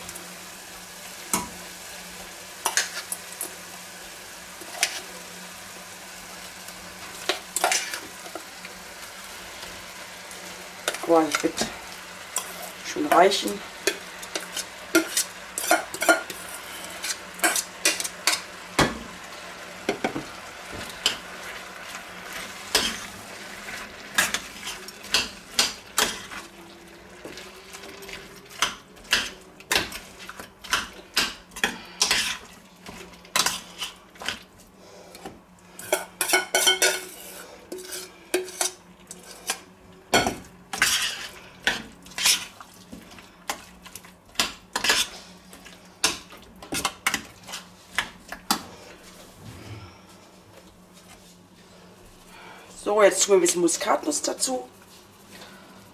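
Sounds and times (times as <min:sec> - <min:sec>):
faint sizzle: 0:00.0 - 0:55.9.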